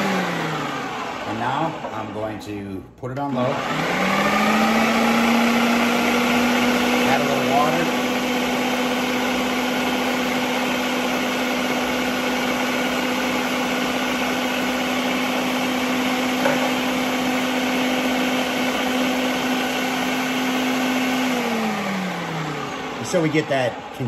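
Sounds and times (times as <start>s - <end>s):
blender motor hum: 0.0s - 2.3s, 3.2s - 24.0s.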